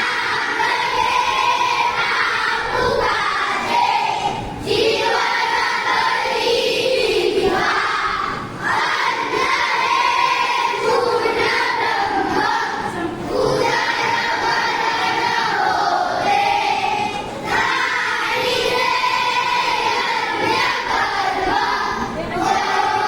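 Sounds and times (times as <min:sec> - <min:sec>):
children singing and shouting: 0:00.0 - 0:23.0.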